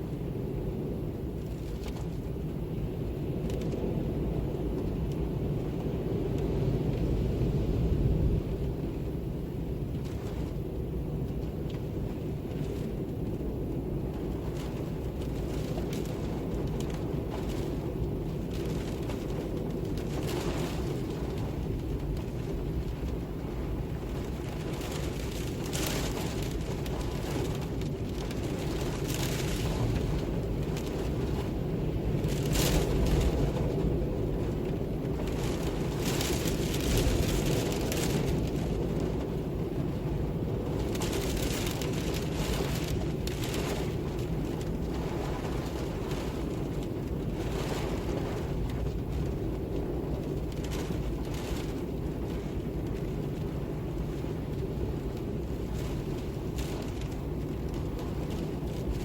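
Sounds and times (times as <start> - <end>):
low rumbling wind with gusts: 0.0 - 59.0.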